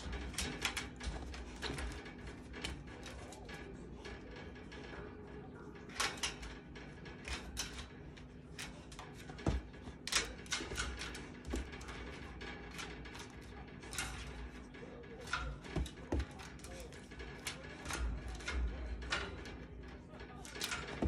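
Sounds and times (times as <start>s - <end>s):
wire bars rattling: 0.0s - 21.0s.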